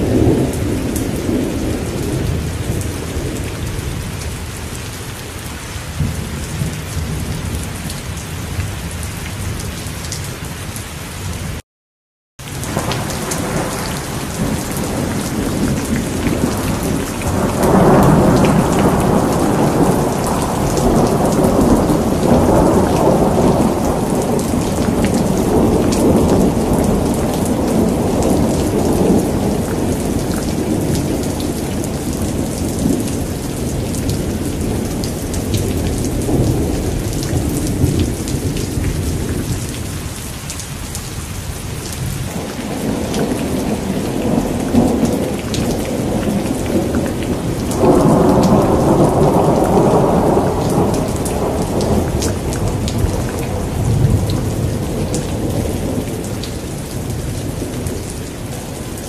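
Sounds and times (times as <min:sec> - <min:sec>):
rolling thunder: 0:00.0 - 0:04.3, 0:12.5 - 0:40.2, 0:41.6 - 0:59.0
heavy rain: 0:00.0 - 0:11.6, 0:12.4 - 0:59.0.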